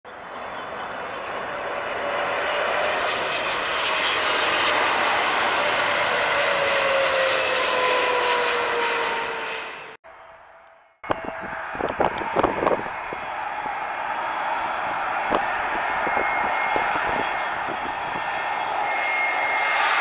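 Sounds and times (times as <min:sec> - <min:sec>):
jet airliner flying past: 0:00.1 - 0:20.0.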